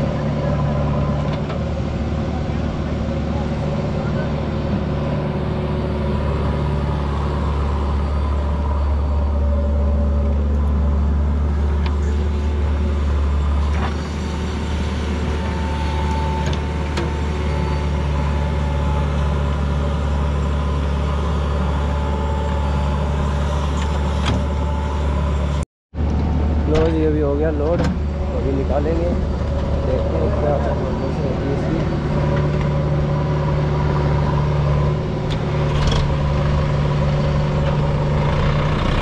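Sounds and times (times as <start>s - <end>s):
diesel engines running: 0.0s - 39.0s
backhoe digging and dumping soil: 4.4s - 39.0s.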